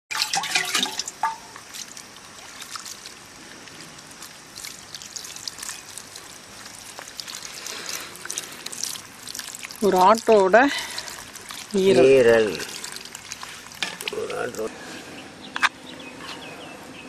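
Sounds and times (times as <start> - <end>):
hands squelching washing liver: 0.1 - 14.7
liquid trickling: 0.1 - 14.8.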